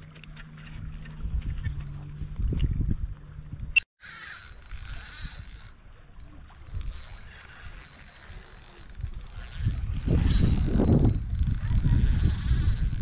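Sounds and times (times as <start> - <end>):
wind rumble on microphone: 0.0 - 3.8, 4.8 - 13.0.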